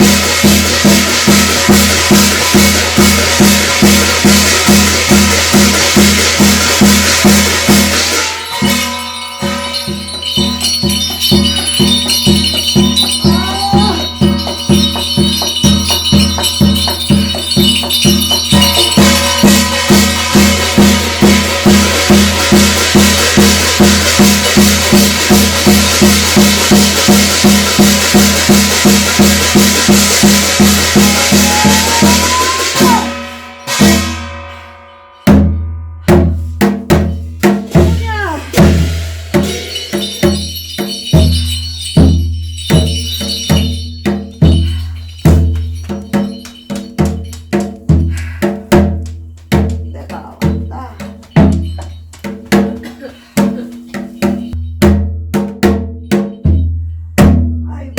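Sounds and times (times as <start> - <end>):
drum beating steadily: 0.0 - 34.4, 35.2 - 57.9
cymbals: 0.0 - 57.4
bells: 0.0 - 57.9
shaken jingling percussion: 0.0 - 57.9.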